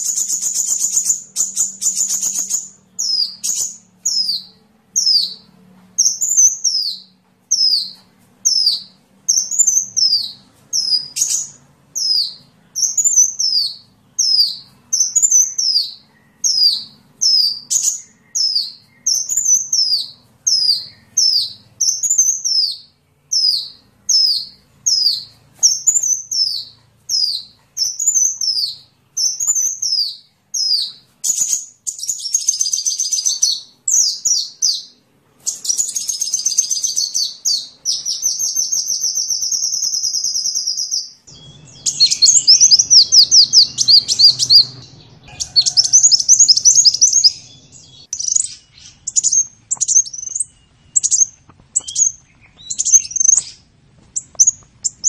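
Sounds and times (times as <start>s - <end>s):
sunbird whistled song and trill: 0.0s - 55.0s.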